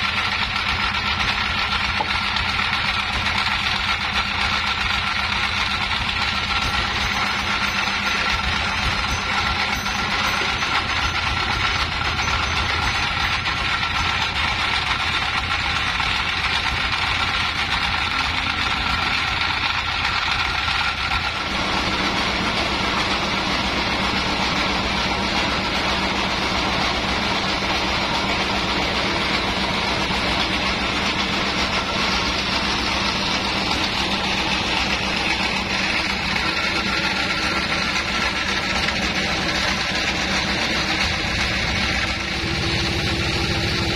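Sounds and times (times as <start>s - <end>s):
bandsaw machinery running: 0.0s - 43.9s
high whine: 0.0s - 43.9s.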